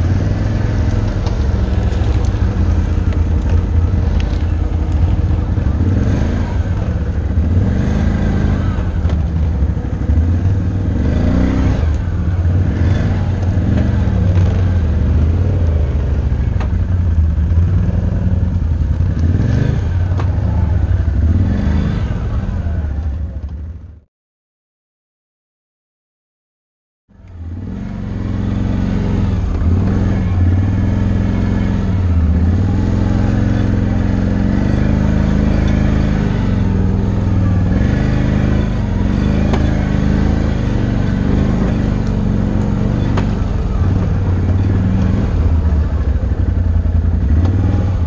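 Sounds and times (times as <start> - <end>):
atv engine revving under load: 0.0 - 23.8, 27.2 - 48.0.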